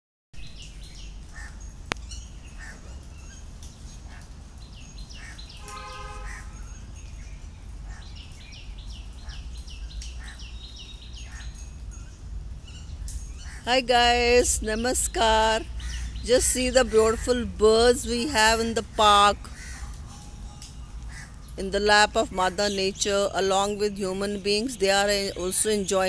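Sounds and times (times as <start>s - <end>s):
birds chirping: 0.4s - 26.0s.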